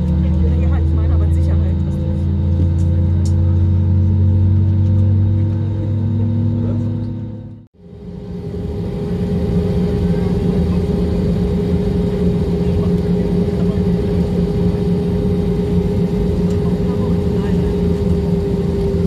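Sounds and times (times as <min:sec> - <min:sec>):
jet engine cabin drone: 0:00.0 - 0:19.0.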